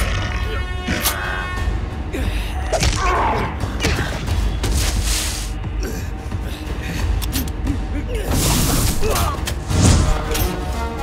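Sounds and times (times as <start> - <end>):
action film score music: 0.0 - 11.0.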